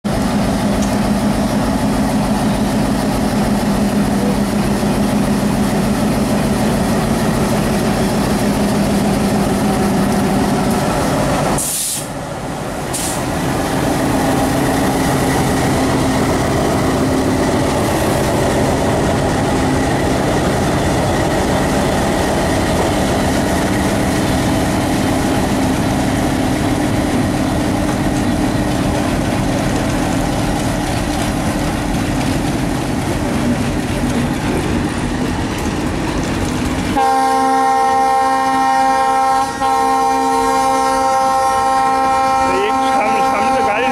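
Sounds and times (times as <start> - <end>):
diesel locomotive engine running: 0.0 - 43.9.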